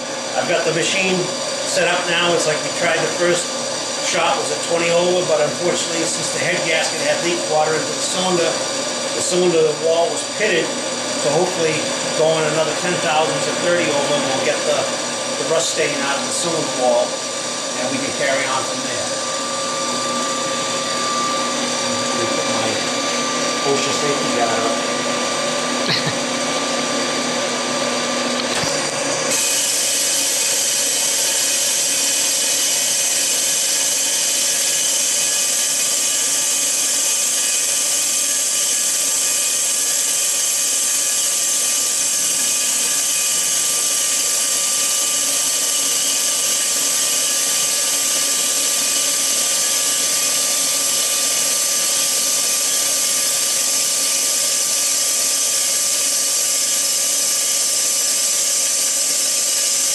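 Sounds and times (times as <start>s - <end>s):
boring machine whine and hiss: 0.0s - 59.9s.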